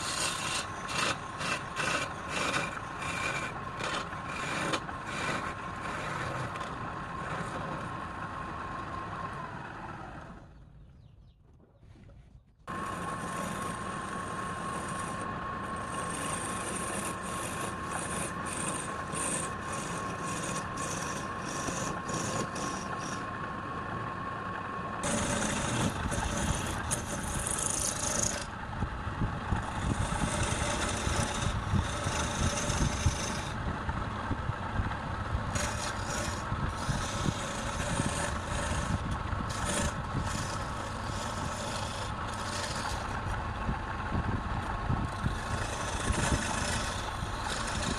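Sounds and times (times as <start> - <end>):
turning tool scraping wood: 0.0 - 8.0, 11.9 - 23.4, 25.0 - 28.6, 29.5 - 33.6, 35.5 - 44.0, 44.6 - 47.9
wood lathe whine: 0.0 - 10.4, 12.7 - 47.9.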